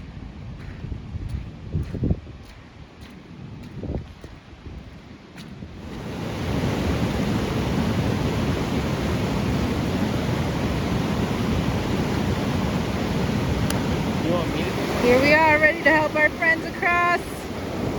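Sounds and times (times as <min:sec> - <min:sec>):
river water roaring: 0:00.0 - 0:17.9.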